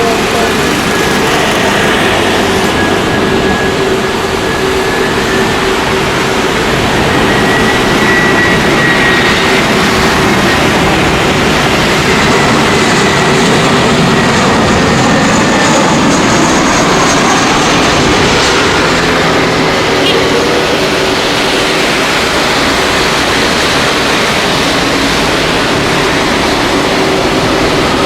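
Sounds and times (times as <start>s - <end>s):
high engine whine: 0.0s - 28.0s
jet engines landing: 0.0s - 28.0s.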